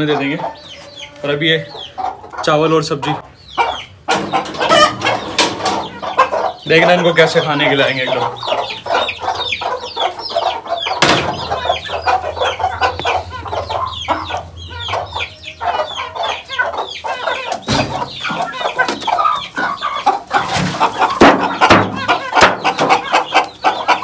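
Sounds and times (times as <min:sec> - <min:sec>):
chicks clucking and chirping: 0:00.0 - 0:24.0.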